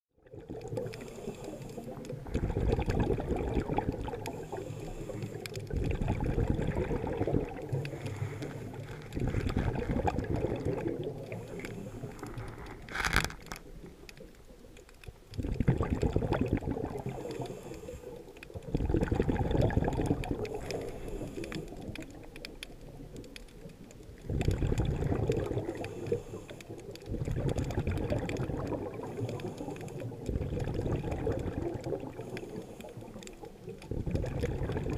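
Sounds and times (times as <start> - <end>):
regulator exhaust bubbles underwater: 0.2 - 34.9.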